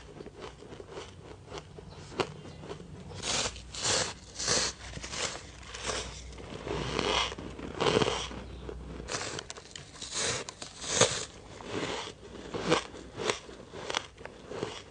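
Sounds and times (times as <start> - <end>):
ice being chewed: 0.0 - 14.9.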